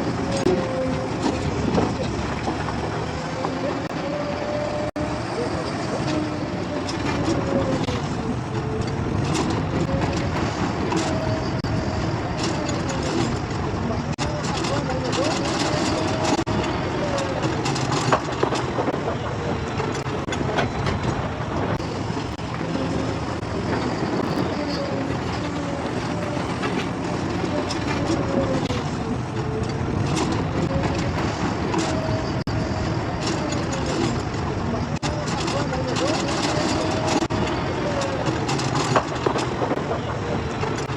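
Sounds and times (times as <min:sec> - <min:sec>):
heavy machine engine rumbling: 0:00.0 - 0:40.9
wavering whine: 0:00.0 - 0:40.9.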